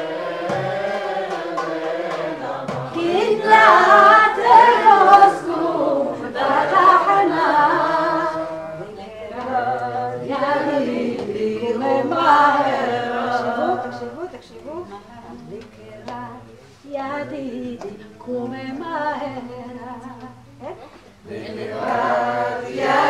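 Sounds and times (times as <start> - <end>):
group of people singing: 0.0 - 23.0.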